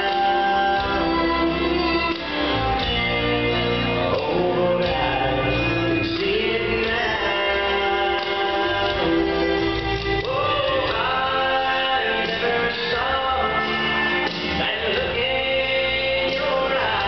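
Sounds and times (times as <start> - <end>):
slow waltz music with singing: 0.0 - 17.0.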